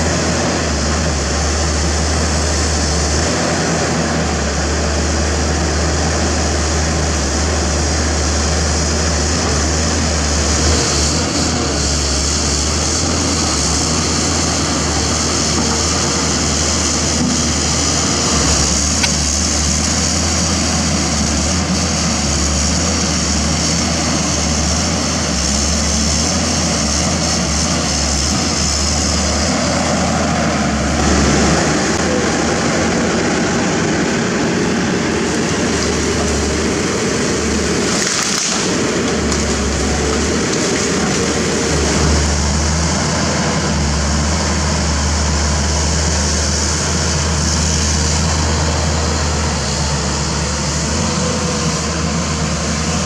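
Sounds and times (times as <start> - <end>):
excavator diesel engine humming: 0.0 - 53.0.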